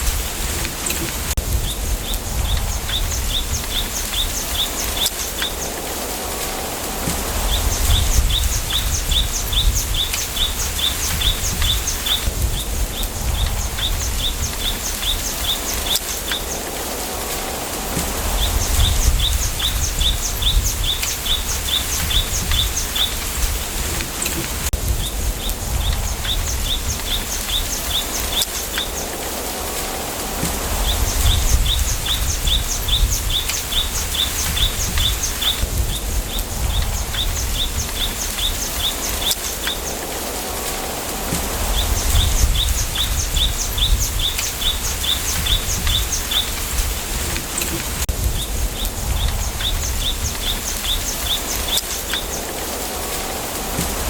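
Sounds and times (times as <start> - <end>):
low rumble of wind: 0.0 - 54.0
rustling hiss: 0.0 - 54.0.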